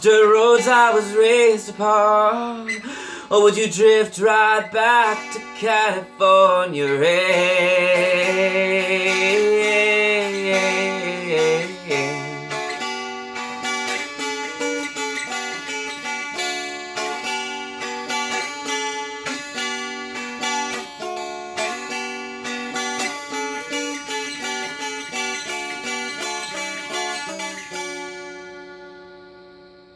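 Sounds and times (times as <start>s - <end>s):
plucked string instrument solo: 0.0s - 29.9s.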